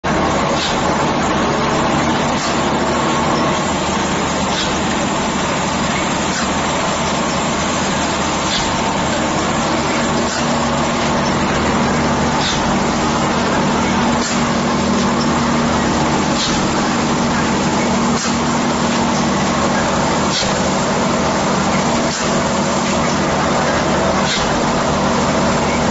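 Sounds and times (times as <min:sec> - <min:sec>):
machine mechanical hum: 0:00.0 - 0:25.9.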